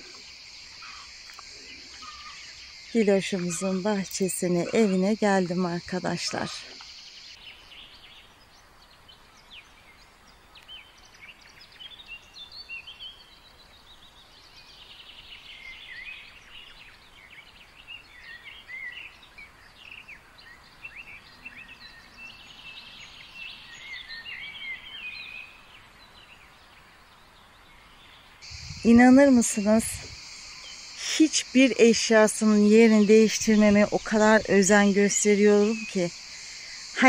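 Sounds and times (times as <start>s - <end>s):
small birds chirping and singing: 0.0s - 37.0s.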